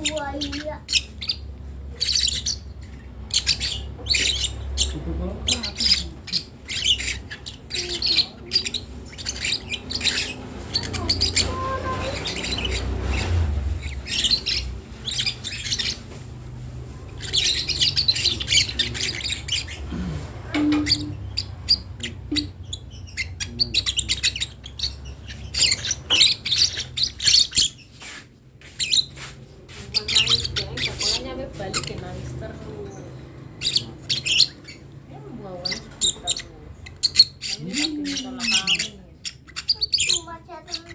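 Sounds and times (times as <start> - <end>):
bird chick chirping and squawking: 0.0 - 40.9.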